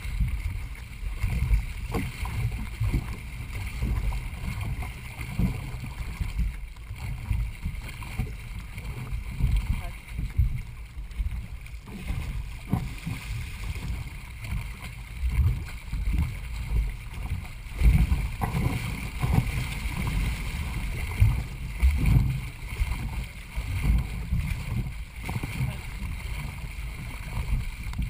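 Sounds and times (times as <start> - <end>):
paddles in water: 0.0 - 28.0
water rushing along hull: 0.0 - 28.0.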